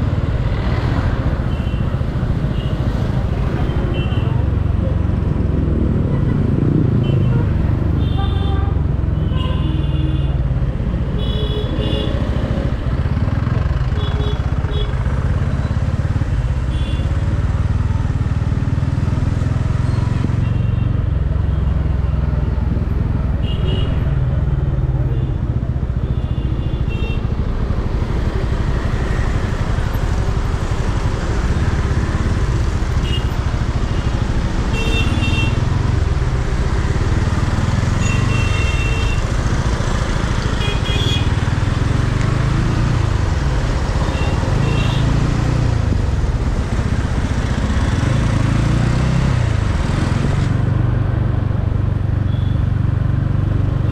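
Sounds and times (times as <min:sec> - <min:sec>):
motorcycle engine and road rumble: 0:00.0 - 0:53.9.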